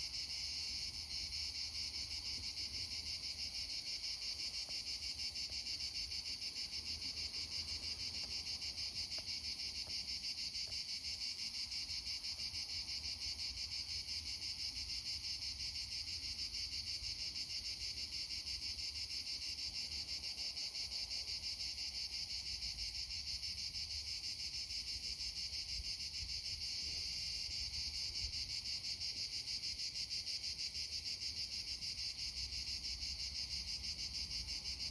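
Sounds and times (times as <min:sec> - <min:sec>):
insect chorus chirring: 0:00.0 - 0:34.9.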